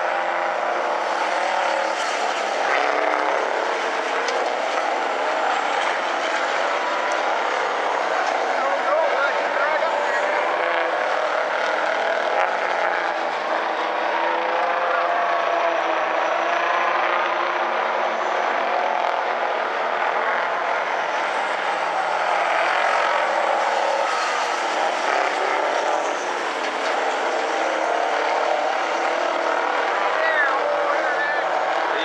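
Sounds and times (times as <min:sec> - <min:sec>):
truck engines racing: 0:00.0 - 0:32.0.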